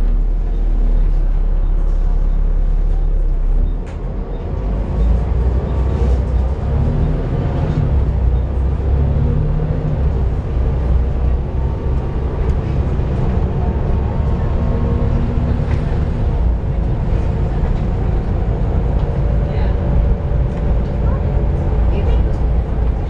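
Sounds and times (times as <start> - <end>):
bus engine droning: 0.0 - 23.0.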